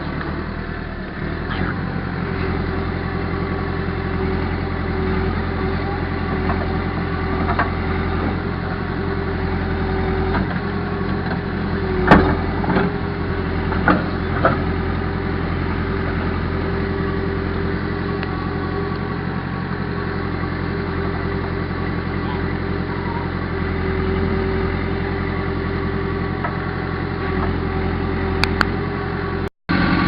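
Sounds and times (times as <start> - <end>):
diesel engine humming: 0.0 - 30.0.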